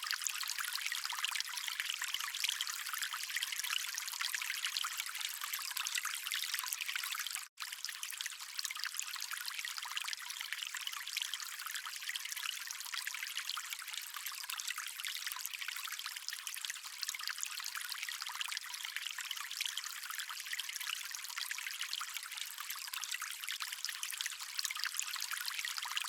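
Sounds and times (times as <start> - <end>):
stream water trickling: 0.0 - 26.0.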